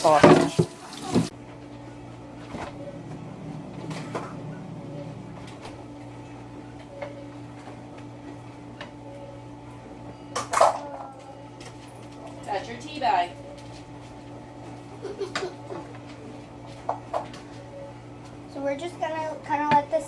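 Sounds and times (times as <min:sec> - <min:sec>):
steady low hum: 0:01.3 - 0:20.0.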